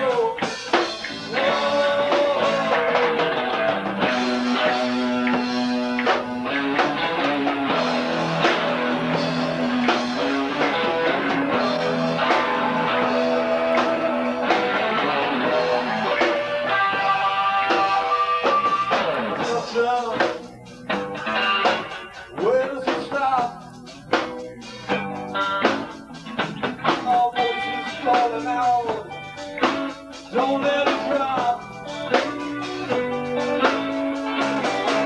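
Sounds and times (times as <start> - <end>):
bass guitar: 0.0 - 35.0
drum kit: 0.0 - 35.0
electric guitar: 0.0 - 35.0.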